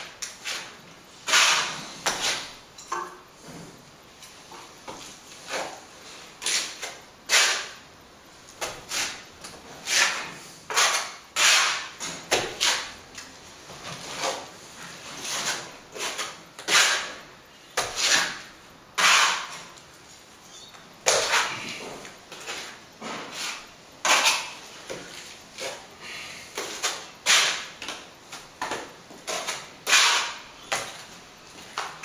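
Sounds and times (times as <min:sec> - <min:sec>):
plaster scraping and slapping on wall: 0:00.0 - 0:02.6, 0:04.8 - 0:07.8, 0:08.6 - 0:17.2, 0:17.8 - 0:19.8, 0:21.0 - 0:32.0.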